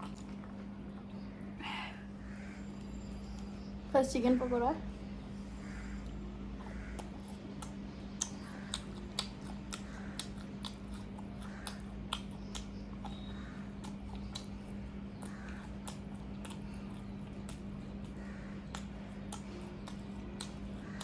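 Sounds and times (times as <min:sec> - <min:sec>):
crunchy chewing of fried food: 0:00.0 - 0:03.9, 0:04.8 - 0:21.0.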